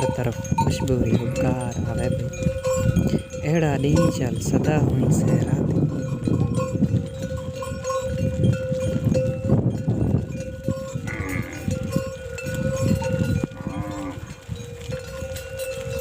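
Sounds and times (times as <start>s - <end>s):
livestock bells clanking: 0.0s - 16.0s.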